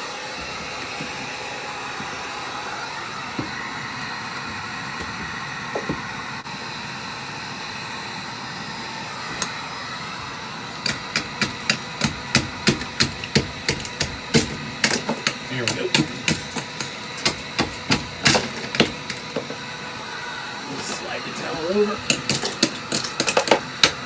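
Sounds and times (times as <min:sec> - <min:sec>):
hot-air blower running: 0:00.0 - 0:24.0.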